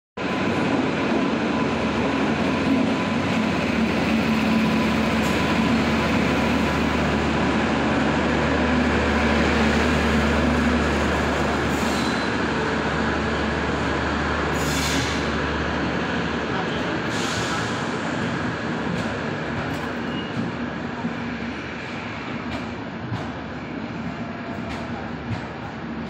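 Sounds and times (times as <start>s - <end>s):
train wheels rumbling on rails: 0.2s - 26.0s.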